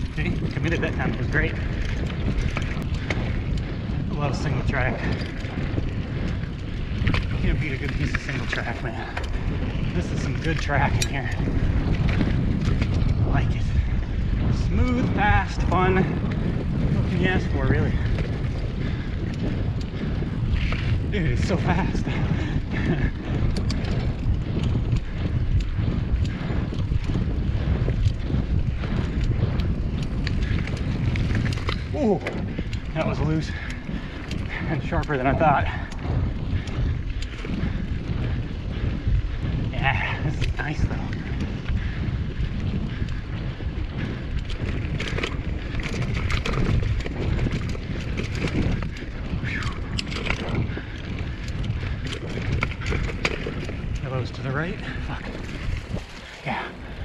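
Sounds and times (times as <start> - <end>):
bike clicks and rattles: 0.0 - 57.0
bike tyre rumble on dirt: 0.0 - 57.0
wind buffeting microphone: 0.0 - 57.0.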